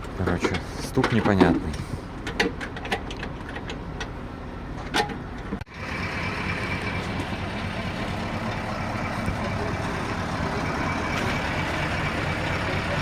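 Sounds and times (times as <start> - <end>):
diesel truck engine running: 1.6 - 13.0.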